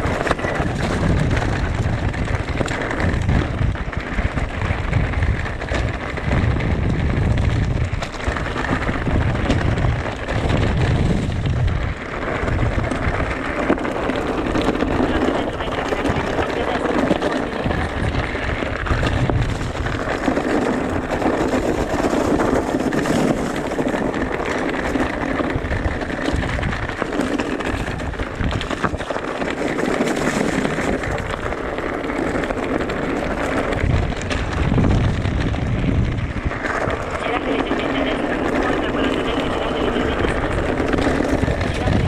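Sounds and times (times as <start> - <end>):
bike clicks and rattles: 0.0 - 42.0
tyres rumbling over ground: 0.0 - 42.0
wind rushing over microphone: 0.0 - 42.0.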